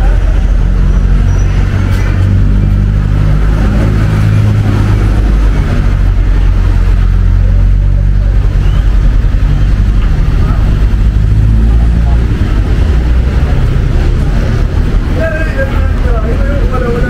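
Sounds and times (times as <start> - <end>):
street traffic engines humming: 0.0 - 17.0.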